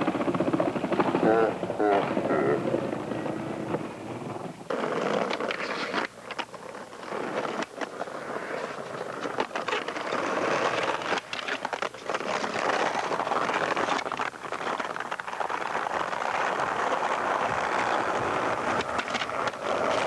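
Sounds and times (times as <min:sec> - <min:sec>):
skateboard clacking on ground: 0:00.0 - 0:20.0
skateboard grinding on concrete: 0:00.0 - 0:20.0
skateboard wheels rolling: 0:00.0 - 0:20.0.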